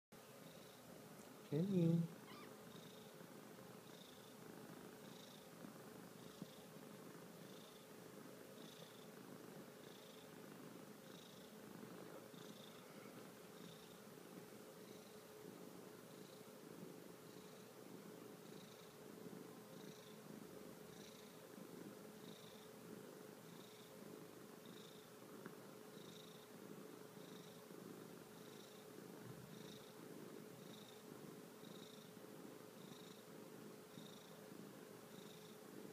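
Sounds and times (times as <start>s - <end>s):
cat purring: 0.2s - 35.9s.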